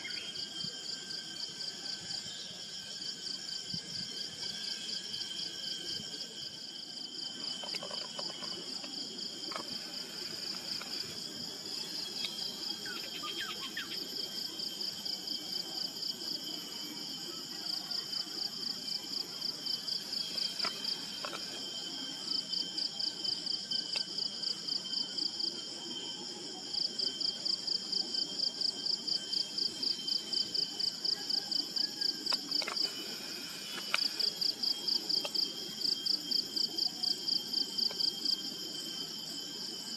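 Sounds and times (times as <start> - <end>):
high insect drone: 0.0 - 39.9
insects chirping rapidly: 0.0 - 39.9.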